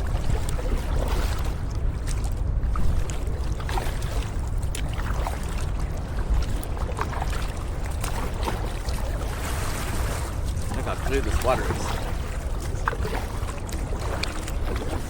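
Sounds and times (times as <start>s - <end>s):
water splashing along kayak hull: 0.0s - 15.0s
wind rumble on microphone: 0.0s - 15.0s.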